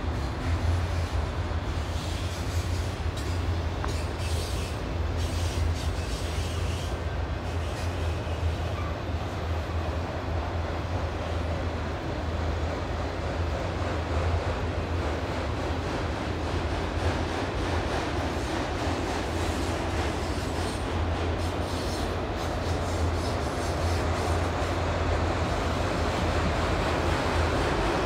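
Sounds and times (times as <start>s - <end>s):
freight train rumbling on rails: 0.0s - 28.0s.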